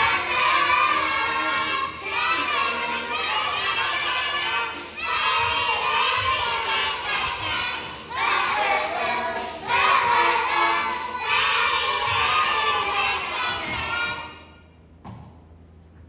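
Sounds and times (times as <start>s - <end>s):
children's voices in unison: 0.0s - 14.5s.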